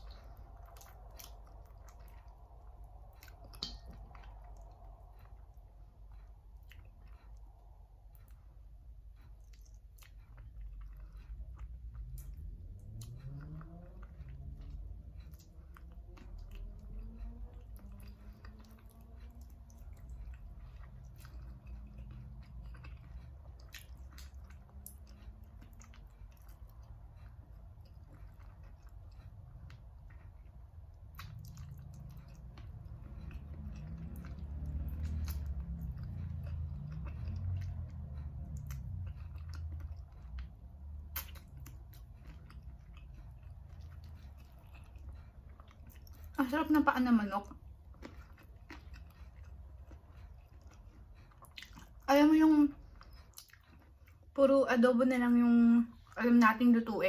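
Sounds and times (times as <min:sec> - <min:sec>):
wet clicks from lips and bones: 0:00.0 - 0:54.4
chewing and sucking chicken feet: 0:00.0 - 0:57.0.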